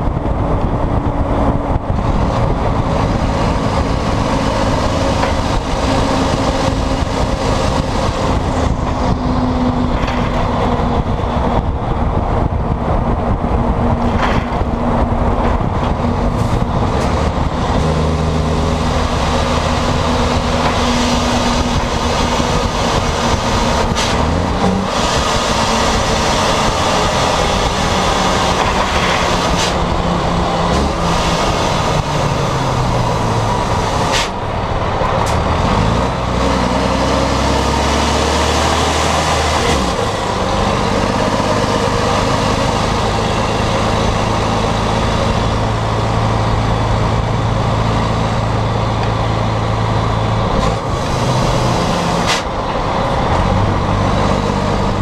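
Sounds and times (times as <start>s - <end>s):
loud diesel truck exhaust: 0.0s - 55.0s.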